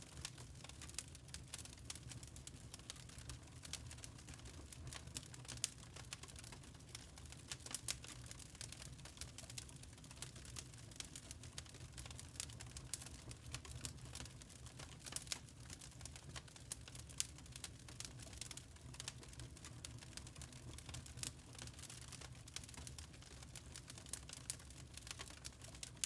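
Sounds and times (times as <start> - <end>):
charcoal crackling and popping: 0.0 - 26.0.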